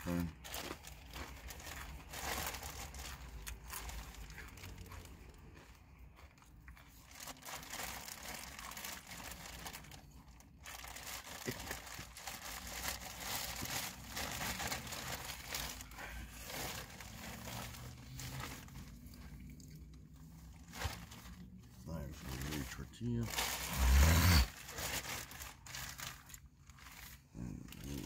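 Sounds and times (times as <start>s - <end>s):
plastic bag crinkling: 0.0s - 5.5s, 6.8s - 28.0s.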